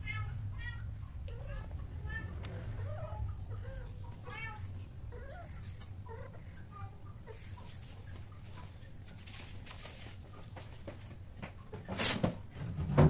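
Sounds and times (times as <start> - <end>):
cats chirping mews: 0.0 - 10.6.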